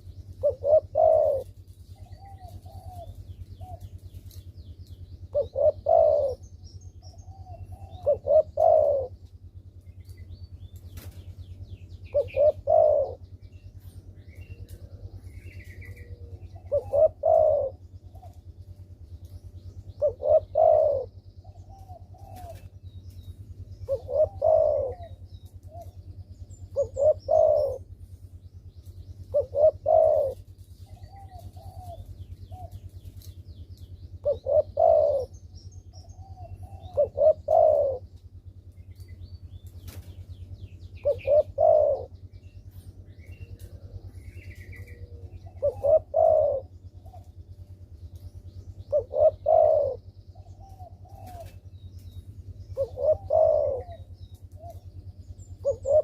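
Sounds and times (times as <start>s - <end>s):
dove cooing: 0.0s - 56.0s
low steady hum: 0.0s - 56.0s.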